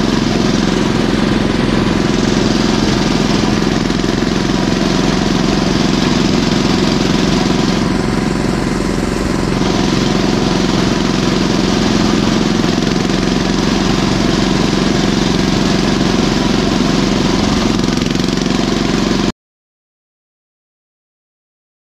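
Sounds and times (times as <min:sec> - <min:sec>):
tractor engine running: 0:00.0 - 0:19.3.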